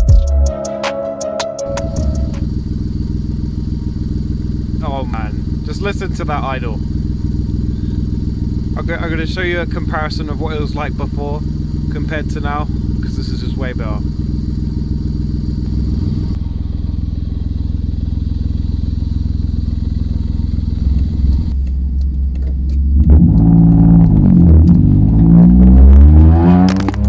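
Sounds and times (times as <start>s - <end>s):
car exhaust idling: 1.7s - 27.0s
engine revving: 1.7s - 27.0s.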